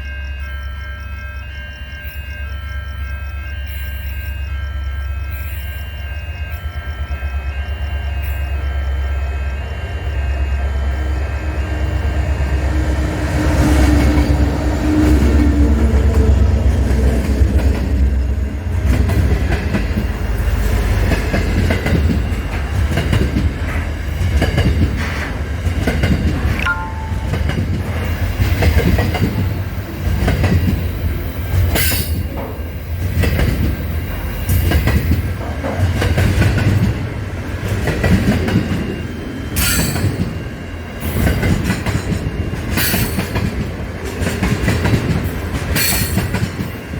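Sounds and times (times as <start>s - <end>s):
train rumbling: 0.0s - 46.9s.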